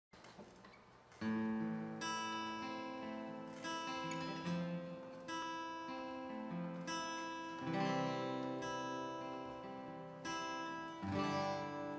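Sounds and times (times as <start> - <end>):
acoustic guitar ringing chords: 1.2 - 11.9.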